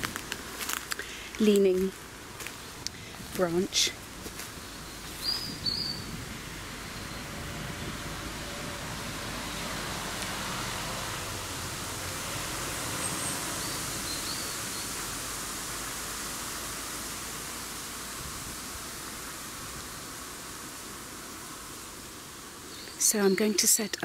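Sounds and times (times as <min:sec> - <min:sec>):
woodland background hiss: 0:00.0 - 0:24.0.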